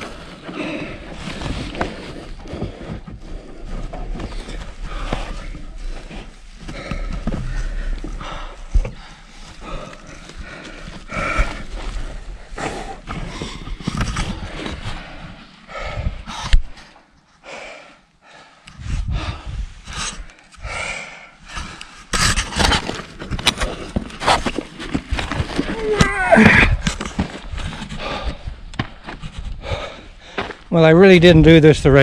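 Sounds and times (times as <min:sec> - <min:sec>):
scuffs and rustles against rock: 0:00.0 - 0:17.3, 0:21.4 - 0:32.0
person breathing hard: 0:00.0 - 0:22.0, 0:26.4 - 0:30.6.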